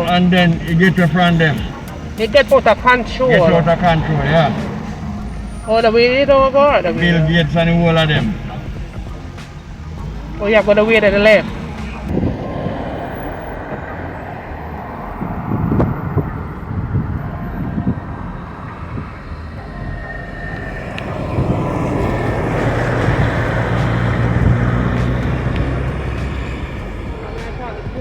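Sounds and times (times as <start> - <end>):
car engine hum: 0.0 - 28.0
tyre and road noise: 0.0 - 28.0.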